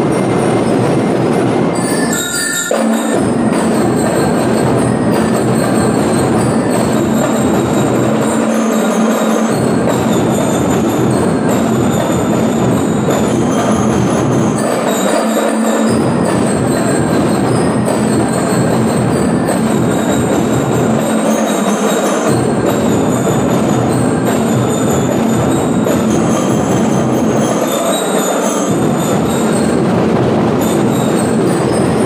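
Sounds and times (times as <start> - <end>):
bell lyres ringing: 0.0 - 32.0
marching drums: 0.0 - 32.0.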